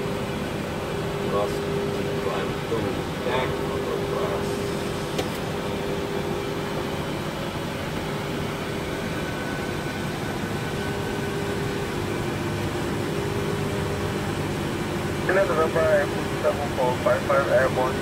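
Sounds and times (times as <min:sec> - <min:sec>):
constant low tone: 0:00.0 - 0:18.0
ventilation hum: 0:00.0 - 0:18.0.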